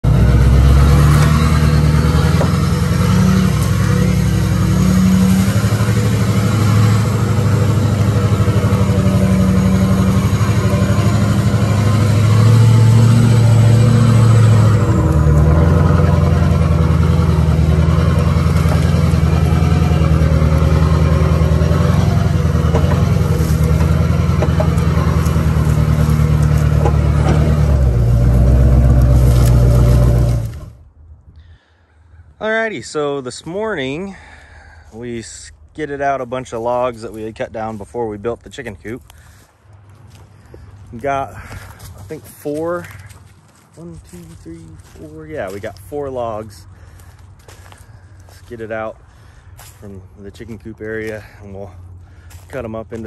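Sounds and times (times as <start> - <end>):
truck engine running: 0.0 - 30.8, 36.3 - 53.0.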